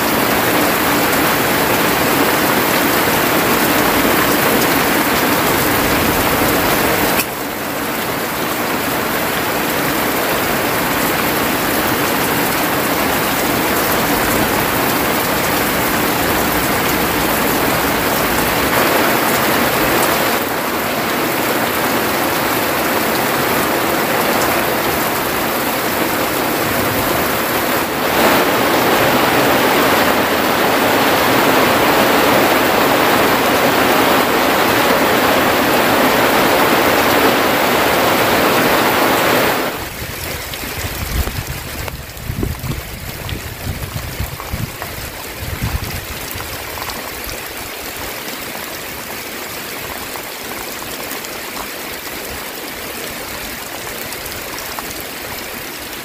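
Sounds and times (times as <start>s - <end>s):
heavy rain on a thatched roof: 0.0s - 56.0s.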